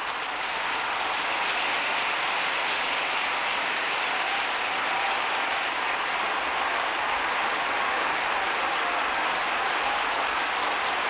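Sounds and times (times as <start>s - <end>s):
large crowd applauding: 0.0s - 11.0s.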